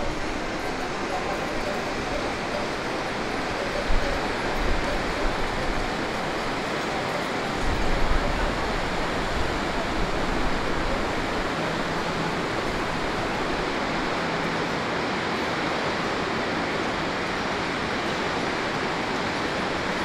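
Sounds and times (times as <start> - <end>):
white water rushing in a stream: 0.0 - 20.0.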